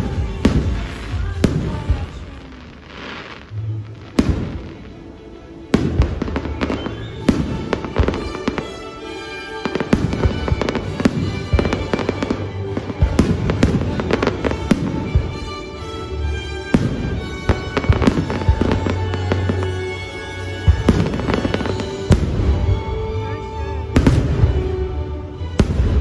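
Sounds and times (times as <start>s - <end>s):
fireworks bangs and crackling: 0.0s - 15.9s, 16.6s - 26.0s
music playing: 0.0s - 26.0s.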